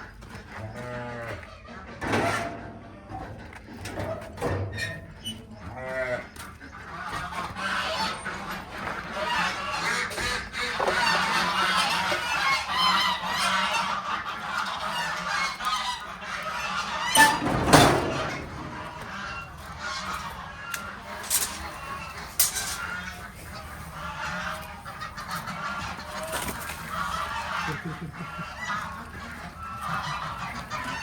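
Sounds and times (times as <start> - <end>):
geese honking: 0.0 - 31.0.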